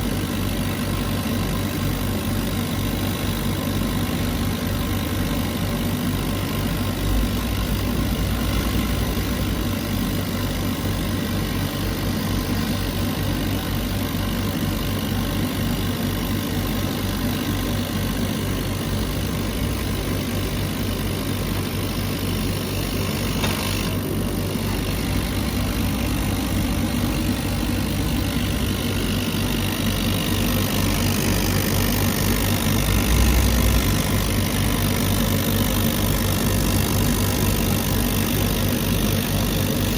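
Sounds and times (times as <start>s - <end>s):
laser cutter machine hum: 0.0s - 39.9s.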